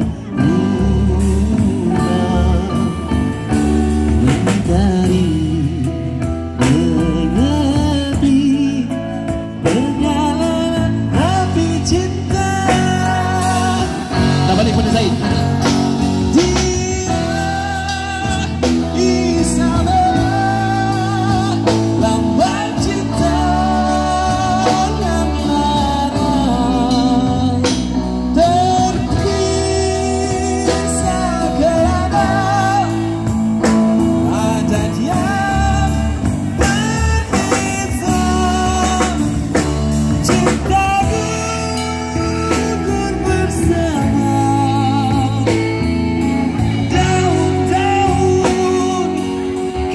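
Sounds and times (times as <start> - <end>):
drum kit: 0.0 - 49.9
electric guitars: 0.0 - 49.9
man singing with vibrato: 0.0 - 49.9.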